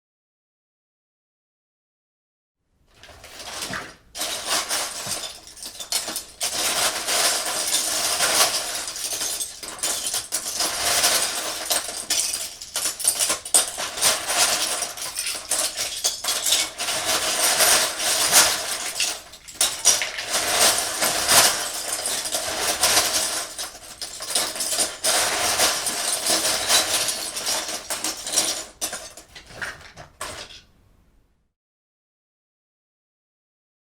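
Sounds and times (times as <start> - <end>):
plastic bricks clattering: 2.9 - 30.7.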